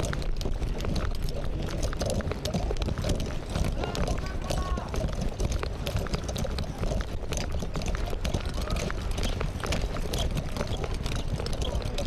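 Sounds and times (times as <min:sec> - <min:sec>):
footsteps on concrete: 0:00.0 - 0:12.0.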